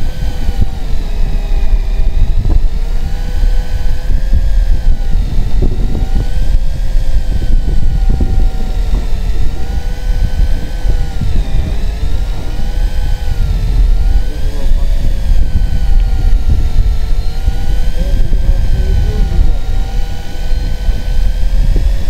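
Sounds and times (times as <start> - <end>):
boat engine low rumble: 0.0 - 22.0
electric fishing reel motor whining: 0.0 - 22.0.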